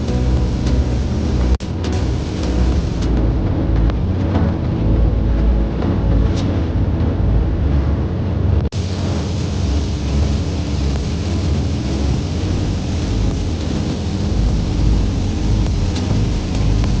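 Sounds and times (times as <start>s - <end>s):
background music with heavy bass: 0.0s - 17.0s.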